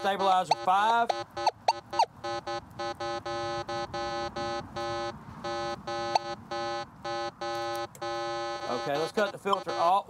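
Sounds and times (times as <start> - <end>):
metal detector buzzy beeps: 0.0 - 10.0.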